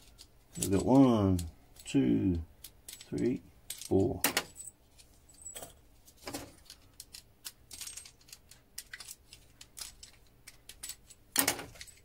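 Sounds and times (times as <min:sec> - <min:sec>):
small metal parts clicking: 0:00.0 - 0:12.0.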